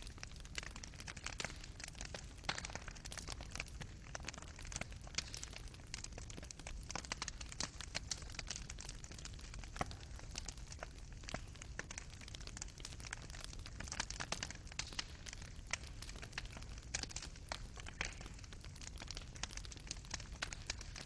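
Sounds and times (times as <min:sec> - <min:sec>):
crackles and pops of burning wood: 0:00.0 - 0:21.0
fireplace fire burning: 0:00.0 - 0:21.0.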